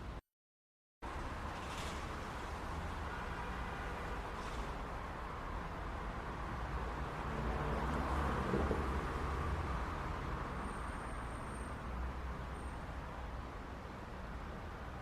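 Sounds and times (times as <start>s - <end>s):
traffic rumble: 1.0s - 15.0s.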